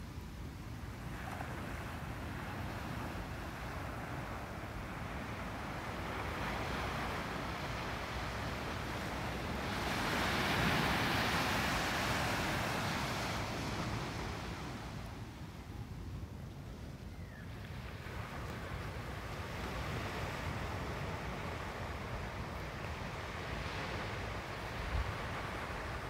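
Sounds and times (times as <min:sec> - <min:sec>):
small waves breaking on sand: 0:00.0 - 0:26.0
wind rumble on microphone: 0:00.0 - 0:26.0.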